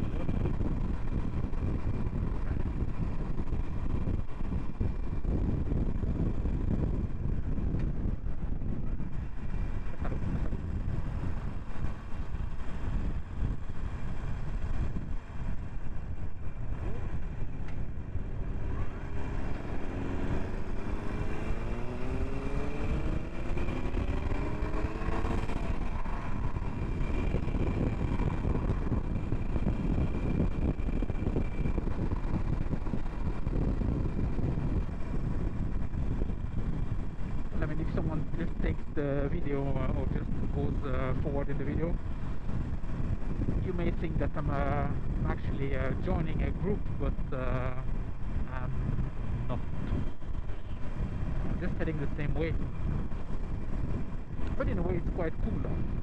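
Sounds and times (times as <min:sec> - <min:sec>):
motorcycle engine rumble: 0:00.0 - 0:56.0
wind noise on microphone: 0:00.0 - 0:56.0.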